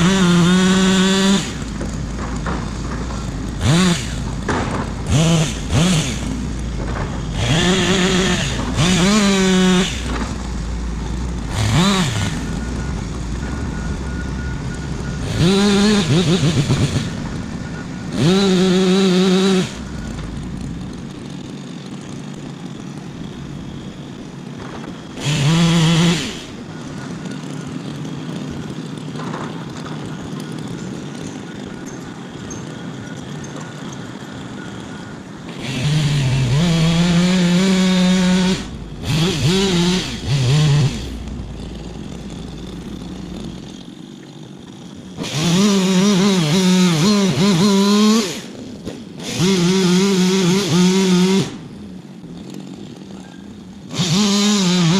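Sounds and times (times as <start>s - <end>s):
chainsaw revving: 0.0s - 54.9s.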